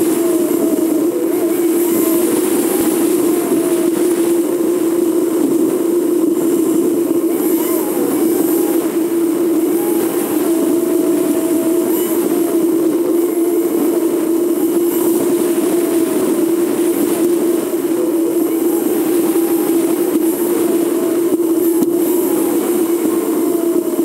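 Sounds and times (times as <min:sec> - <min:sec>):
wind noise: 0:00.0 - 0:24.0.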